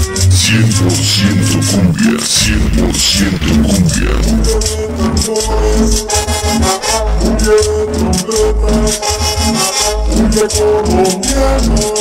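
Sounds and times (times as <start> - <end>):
drums: 0.0 - 12.0
high percussion: 0.0 - 12.0
steady bass beat: 0.0 - 12.0.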